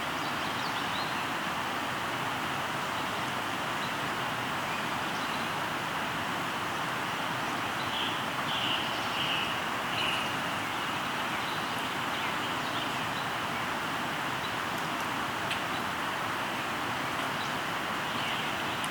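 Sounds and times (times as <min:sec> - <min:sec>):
river flowing: 0:00.0 - 0:18.9.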